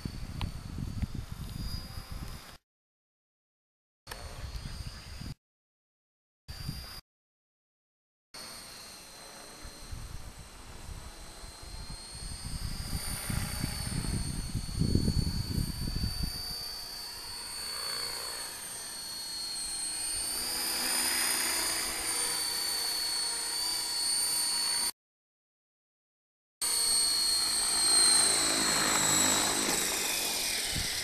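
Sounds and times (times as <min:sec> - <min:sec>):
rc helicopter motor whine: 0:00.0 - 0:02.6, 0:04.1 - 0:05.4, 0:06.5 - 0:07.0, 0:08.4 - 0:25.0, 0:26.6 - 0:31.0.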